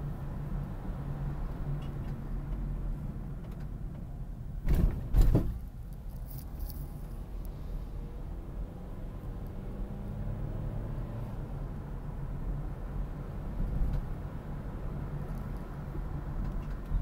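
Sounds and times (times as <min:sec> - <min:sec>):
car engine and tyres rumble: 0:00.0 - 0:17.0.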